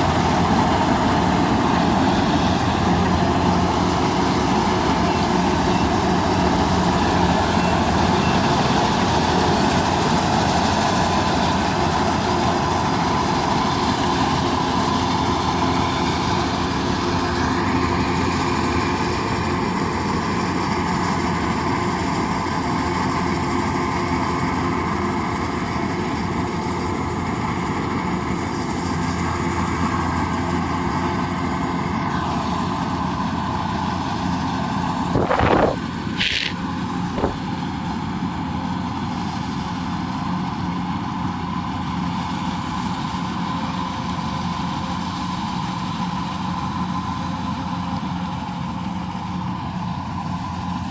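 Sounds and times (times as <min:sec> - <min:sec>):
combine harvester running: 0:00.0 - 0:50.9.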